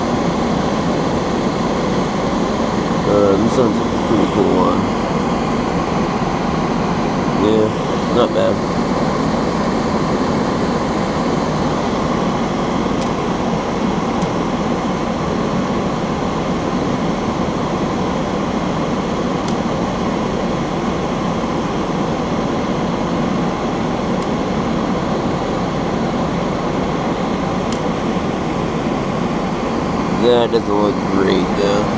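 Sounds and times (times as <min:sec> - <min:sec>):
ventilation fan rushing air: 0:00.0 - 0:31.9.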